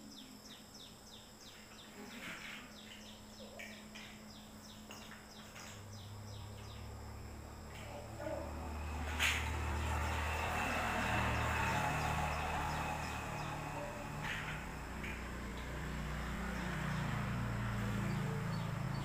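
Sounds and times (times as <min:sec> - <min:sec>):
high-pitched insect drone: 0:02.7 - 0:19.0.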